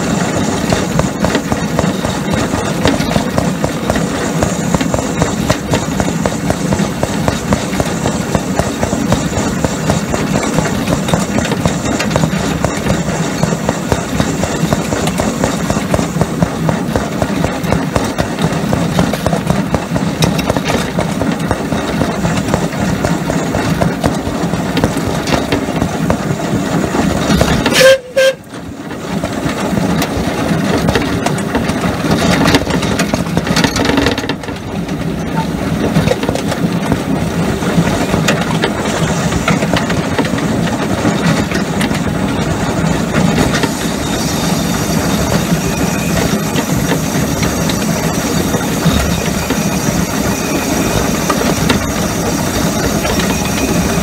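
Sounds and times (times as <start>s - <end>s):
steam locomotive running on rails: 0.0s - 54.0s.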